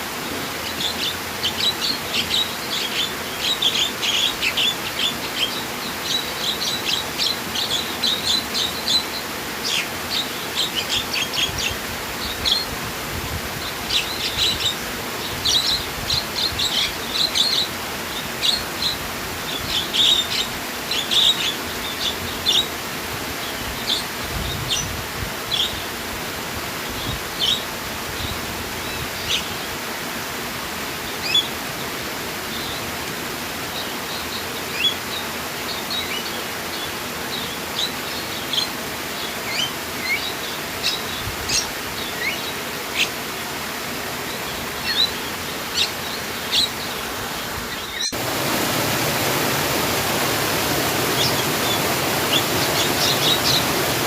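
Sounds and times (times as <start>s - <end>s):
flowing water rushing: 0.0s - 54.0s
small birds chirping: 0.1s - 12.8s, 13.5s - 26.0s, 26.8s - 29.8s, 31.0s - 54.0s.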